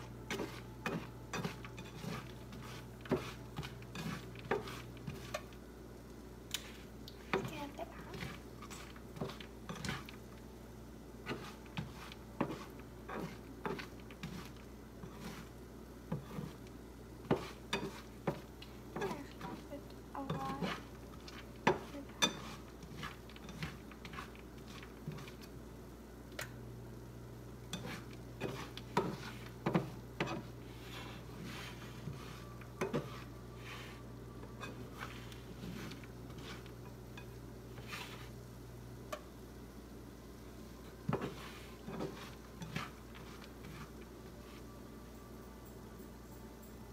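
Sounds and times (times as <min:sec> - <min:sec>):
steady low hum: 0:00.0 - 0:46.9
spatula scraping cereal in a pan: 0:00.1 - 0:05.6, 0:06.5 - 0:10.2, 0:11.2 - 0:25.6, 0:27.7 - 0:38.5, 0:41.0 - 0:44.7.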